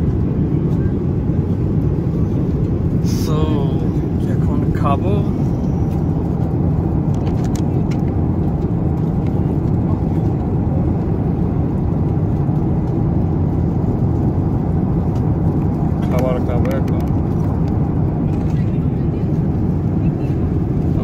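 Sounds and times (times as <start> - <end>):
airliner cabin roar: 0.0 - 21.0.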